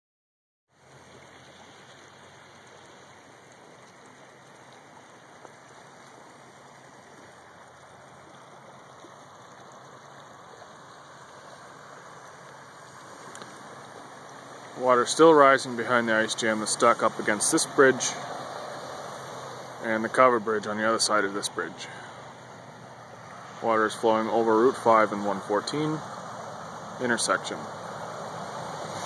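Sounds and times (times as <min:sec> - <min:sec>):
floodwater rushing: 0:00.7 - 0:29.0.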